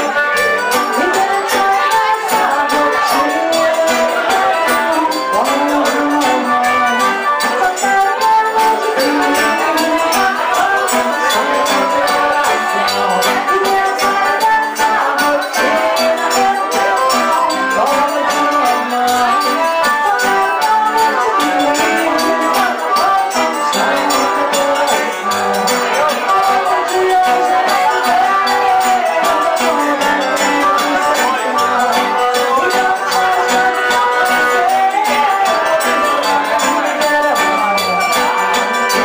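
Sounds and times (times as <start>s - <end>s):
accordion: 0.0s - 39.0s
guitar: 0.0s - 39.0s
hand percussion: 0.0s - 39.0s.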